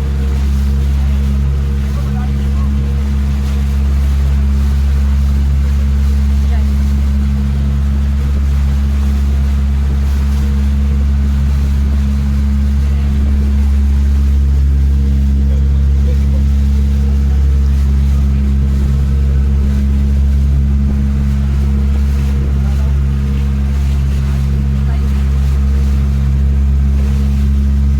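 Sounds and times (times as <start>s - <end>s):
motorboat engine droning: 0.0s - 27.9s.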